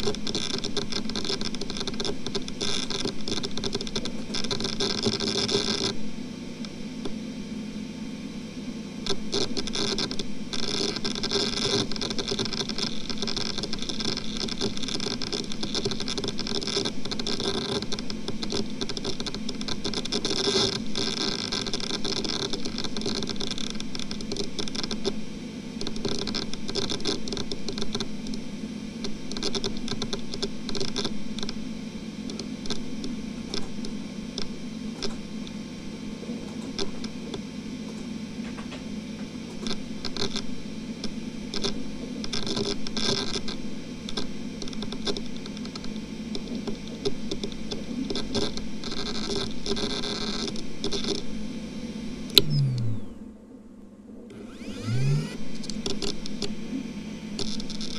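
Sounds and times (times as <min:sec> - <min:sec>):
hard drive seek ticking: 0:00.0 - 0:53.4, 0:54.3 - 0:57.9
hard drive humming: 0:00.0 - 0:57.9.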